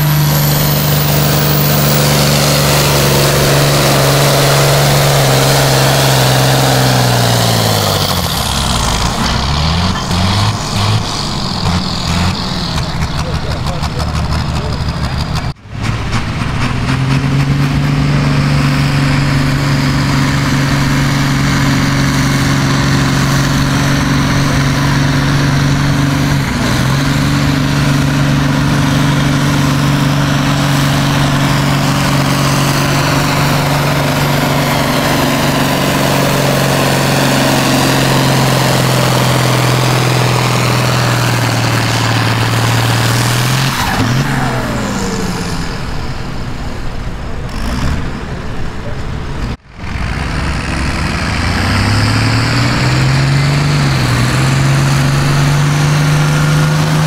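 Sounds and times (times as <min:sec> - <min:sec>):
tractor engine under heavy load: 0:00.0 - 0:57.0.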